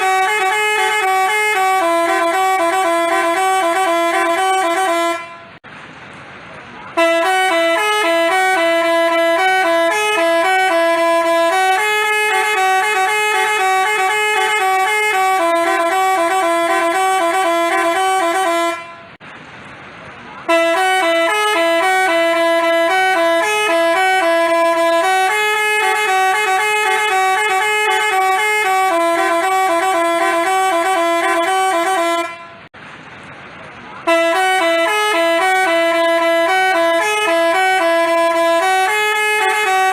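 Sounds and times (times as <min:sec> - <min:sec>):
bus horn playing a melody: 0:00.0 - 0:05.6, 0:06.9 - 0:19.2, 0:20.4 - 0:32.7, 0:34.0 - 0:39.9.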